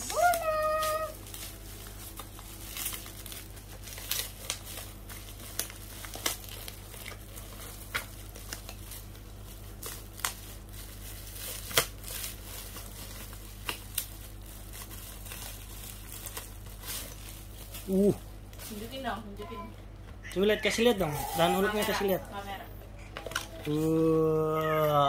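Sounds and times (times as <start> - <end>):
plastic bag crinkling: 0.0 - 19.5, 20.2 - 24.1.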